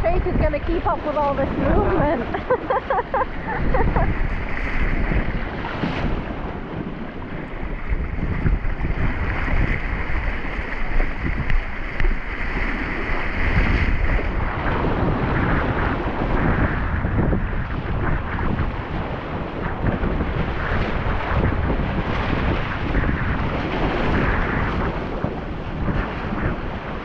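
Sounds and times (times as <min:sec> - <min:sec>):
waves splashing against hulls: 0:00.0 - 0:27.0
wind buffeting microphone: 0:00.0 - 0:27.0.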